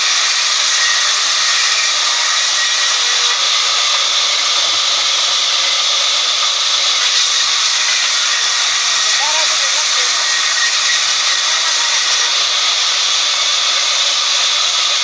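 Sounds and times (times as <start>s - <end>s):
band saw cutting wood: 0.0s - 15.0s.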